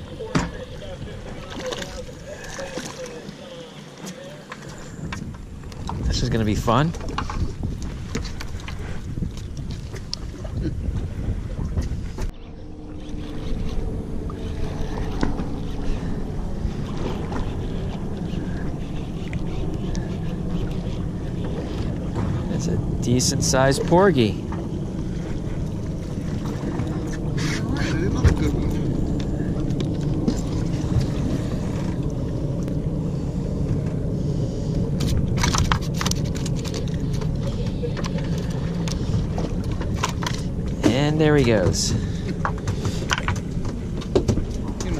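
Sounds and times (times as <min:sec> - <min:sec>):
wind rumbling on microphone: 0:04.6 - 0:44.9.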